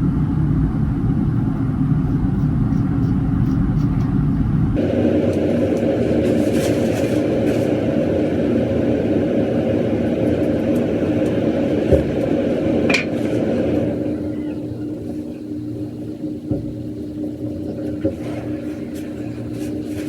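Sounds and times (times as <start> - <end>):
motor hum with low rumble: 0.0 - 20.0.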